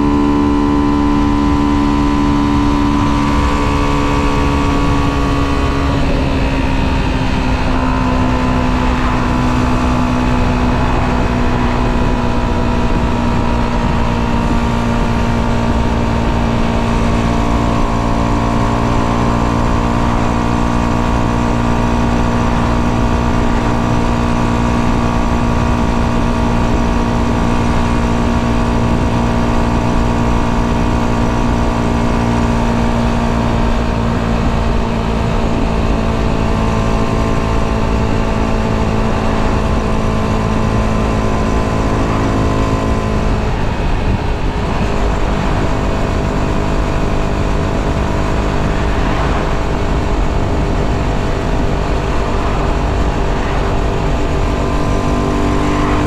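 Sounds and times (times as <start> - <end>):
motorbike engine cruising: 0.0 - 56.0
wind and road rush: 0.0 - 56.0.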